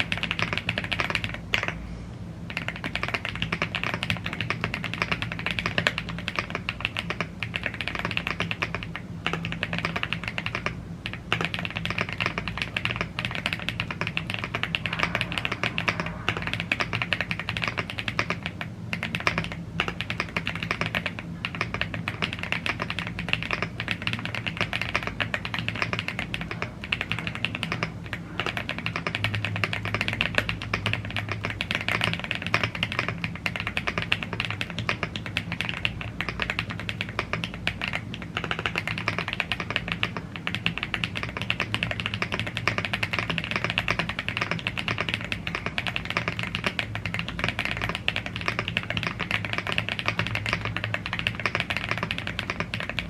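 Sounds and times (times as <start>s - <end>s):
fast mechanical keyboard typing: 0.0s - 1.8s, 2.5s - 53.0s.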